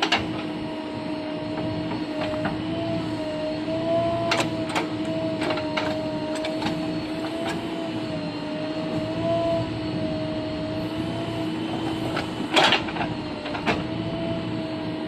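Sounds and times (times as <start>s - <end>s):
bulldozer mechanical whine: 0.0s - 15.0s.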